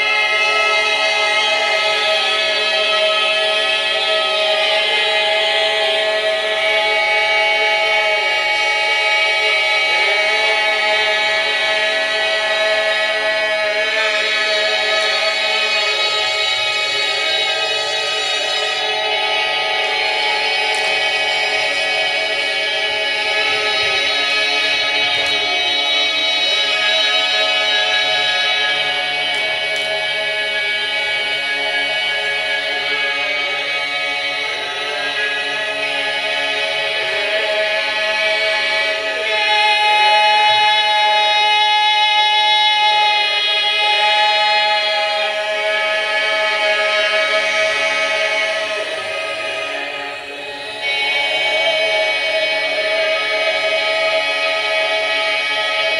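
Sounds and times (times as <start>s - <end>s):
chorus singing held notes: 0.0s - 55.9s.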